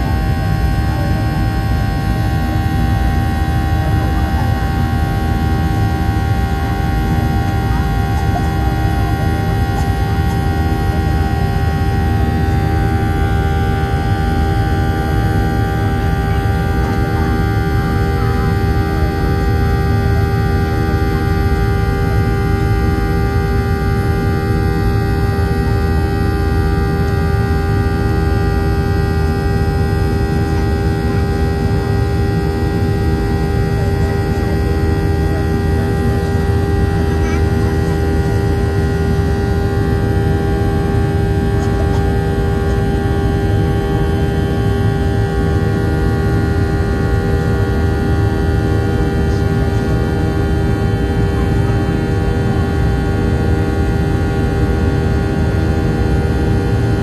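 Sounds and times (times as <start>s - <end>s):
jet engines deep rumble: 0.0s - 57.0s.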